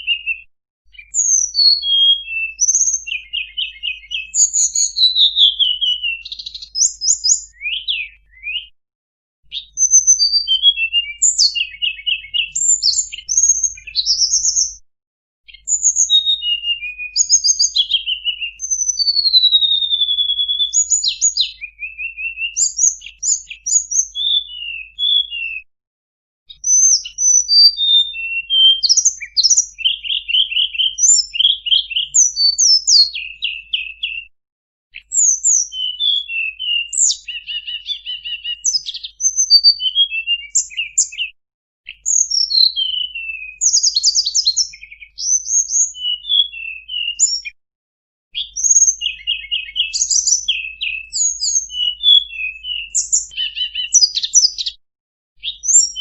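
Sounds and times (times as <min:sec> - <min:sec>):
songbird singing varied song: 0:00.0 - 0:08.8, 0:09.4 - 0:14.8, 0:15.5 - 0:25.7, 0:26.5 - 0:34.3, 0:34.9 - 0:47.6, 0:48.3 - 0:54.8, 0:55.4 - 0:56.0.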